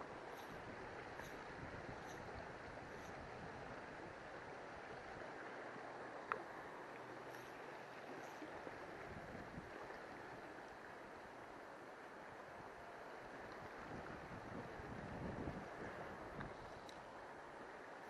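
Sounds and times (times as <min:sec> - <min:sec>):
river water flowing over rocks: 0:00.0 - 0:14.6.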